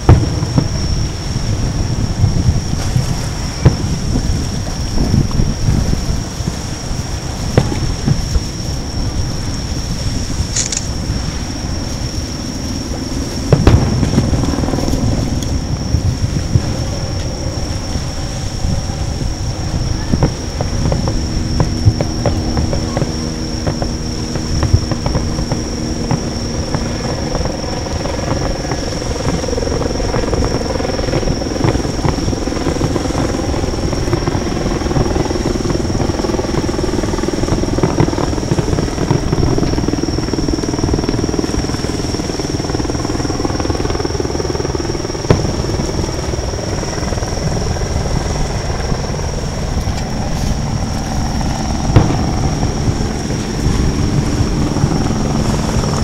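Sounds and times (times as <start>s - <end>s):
distant fireworks bangs: 0.0s - 56.0s
steady engine drone: 0.0s - 56.0s.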